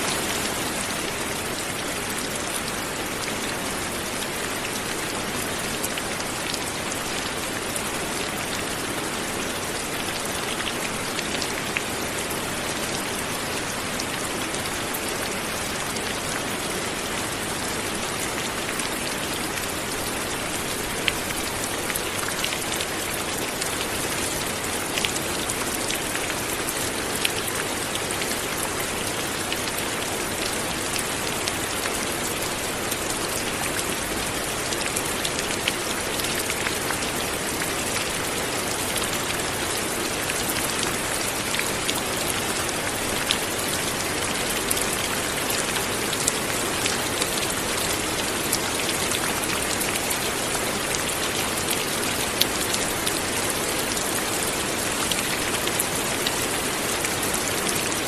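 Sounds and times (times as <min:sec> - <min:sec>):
light rain hiss: 0:00.0 - 0:58.0.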